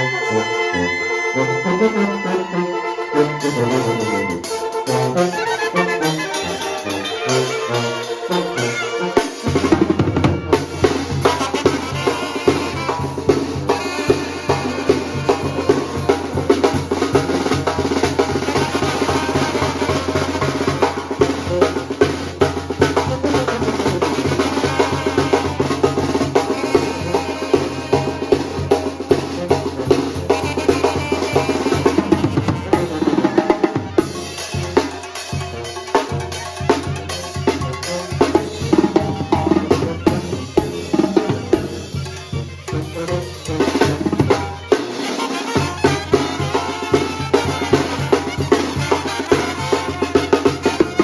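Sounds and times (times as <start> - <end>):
brass band music: 0.0 - 51.0
bass drum and snare beat: 9.4 - 51.0.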